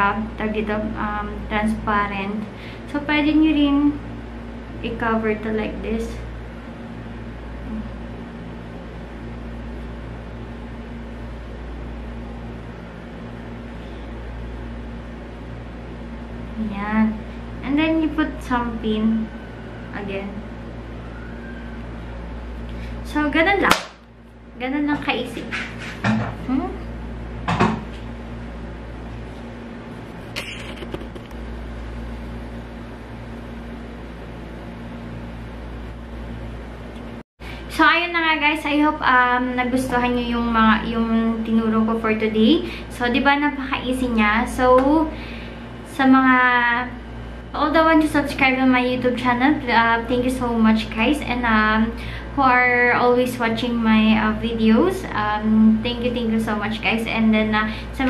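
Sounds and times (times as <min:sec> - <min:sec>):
appliance humming: 0:00.0 - 0:58.0.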